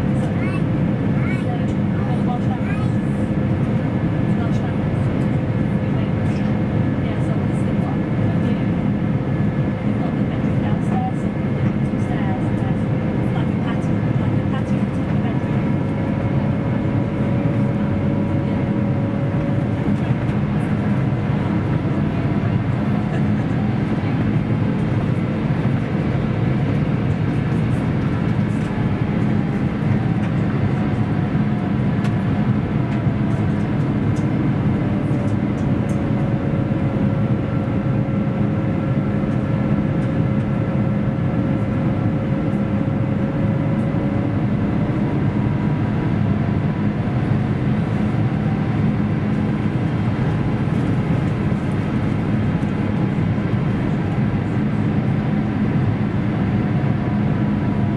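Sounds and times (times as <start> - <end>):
faint engine whine: 0.0 - 57.9
jet engines and airflow rushing: 0.0 - 57.9.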